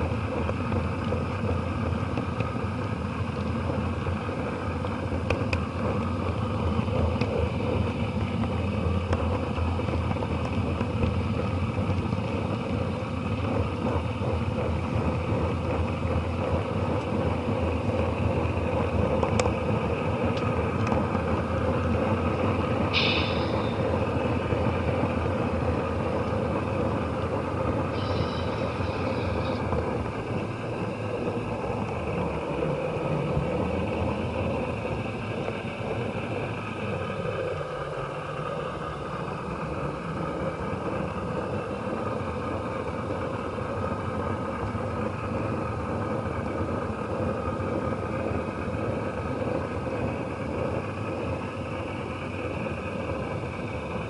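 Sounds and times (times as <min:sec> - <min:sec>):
model train wheels rumbling: 0:00.0 - 0:54.0.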